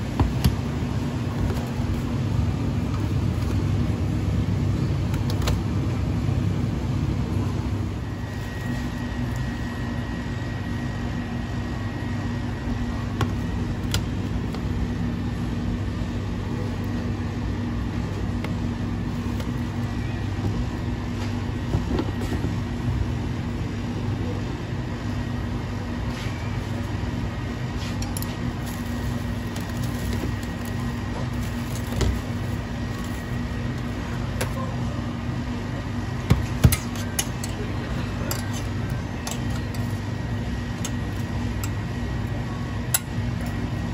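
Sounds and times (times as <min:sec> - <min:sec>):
kitchen machinery humming: 0:00.0 - 0:43.9.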